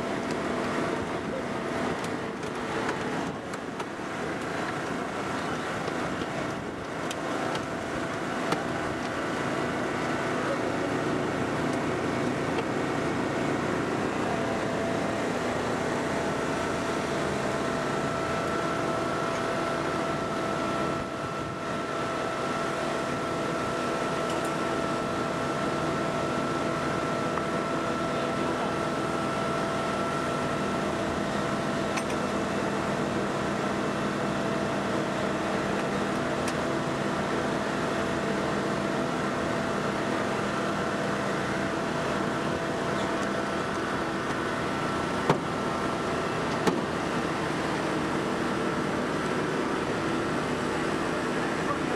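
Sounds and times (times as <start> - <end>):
hydraulic power unit engine running: 0.0 - 51.9.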